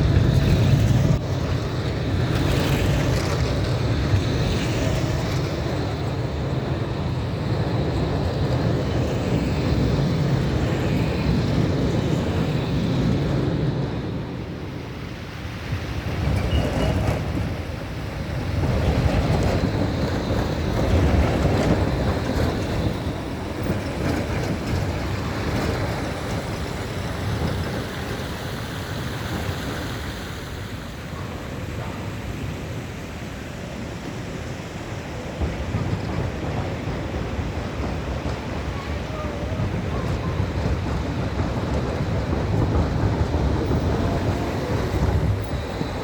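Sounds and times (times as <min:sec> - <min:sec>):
street traffic rumble: 0:00.0 - 0:46.0
wind buffeting microphone: 0:00.0 - 0:46.0.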